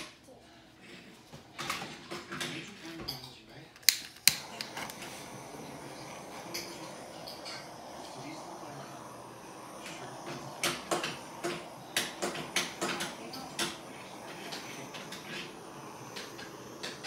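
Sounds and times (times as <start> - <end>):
butane torch flame hissing: 0.7 - 17.0.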